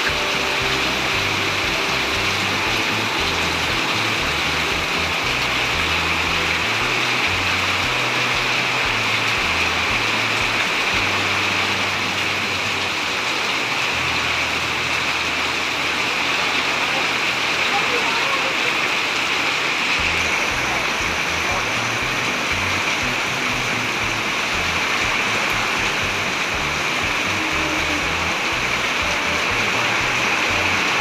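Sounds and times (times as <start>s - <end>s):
bass notes of background music: 0.0s - 16.5s, 20.0s - 31.0s
heavy rain pouring: 0.0s - 31.0s.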